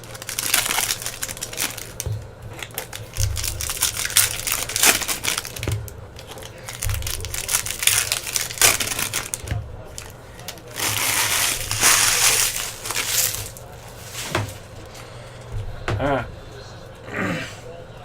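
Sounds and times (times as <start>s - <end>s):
foil wrappers crinkling and tearing: 0.0s - 15.2s
low handling bumps: 1.3s - 16.6s.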